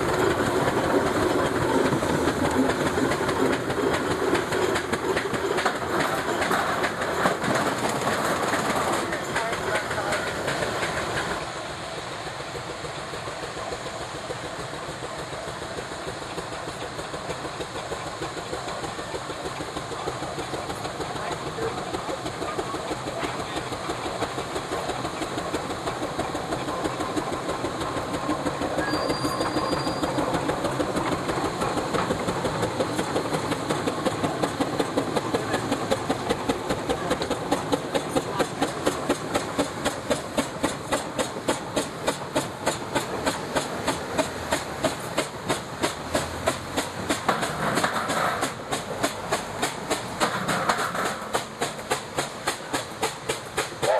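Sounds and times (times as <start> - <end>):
steam engine chuffing: 0.0 - 53.9.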